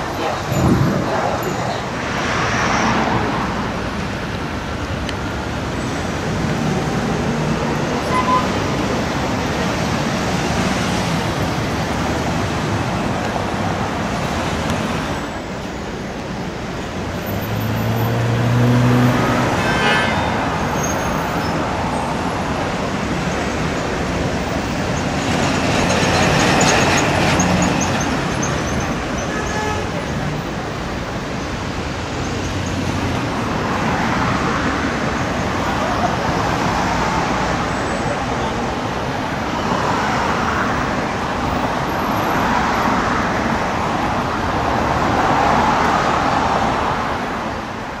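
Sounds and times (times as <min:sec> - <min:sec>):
city traffic noise: 0:00.0 - 0:48.0.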